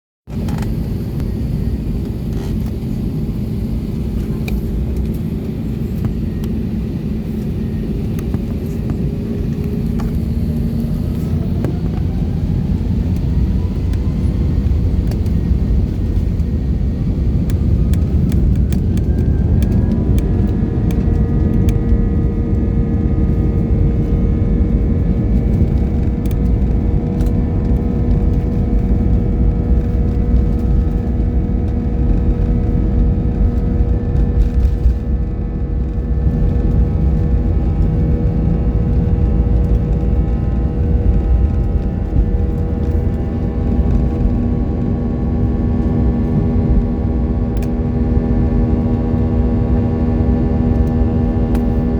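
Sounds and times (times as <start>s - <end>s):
jet engine whine in cabin: 0.3s - 51.9s.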